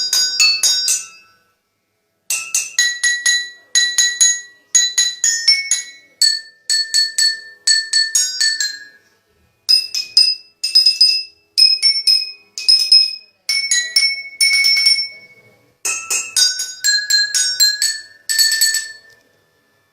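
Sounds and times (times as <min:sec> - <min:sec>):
bowls struck playing a melody: 0:00.0 - 0:01.6, 0:02.3 - 0:19.5.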